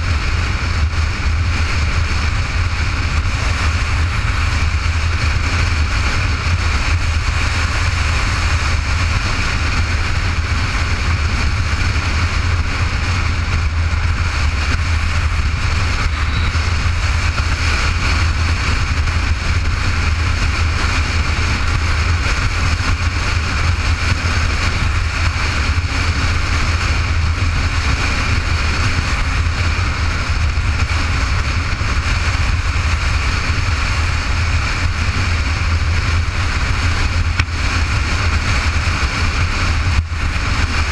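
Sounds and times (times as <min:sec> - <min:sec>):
motorcycle cruising: 0:00.0 - 0:40.9
wind rushing on microphone: 0:00.0 - 0:40.9.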